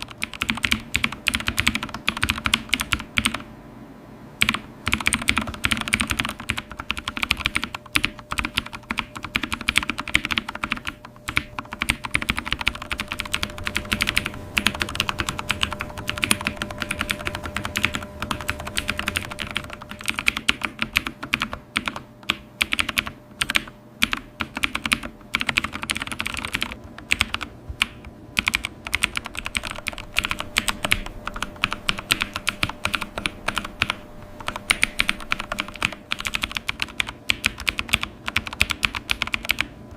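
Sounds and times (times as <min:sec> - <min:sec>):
typing on computer keyboard: 0:00.0 - 0:03.5, 0:04.4 - 0:39.8.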